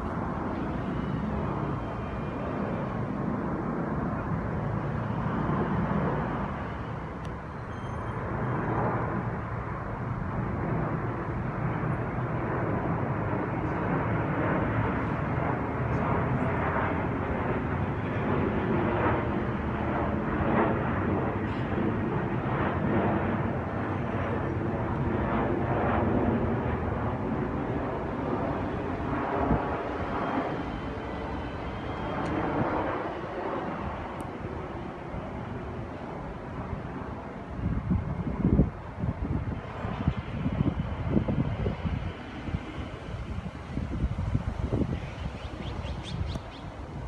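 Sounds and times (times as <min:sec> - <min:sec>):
jet airliner engines rumbling: 0:00.0 - 0:47.0.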